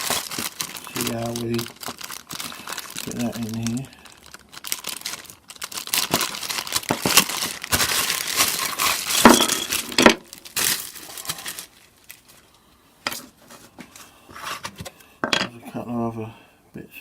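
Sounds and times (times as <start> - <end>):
packaging crinkling: 0.0 - 14.8.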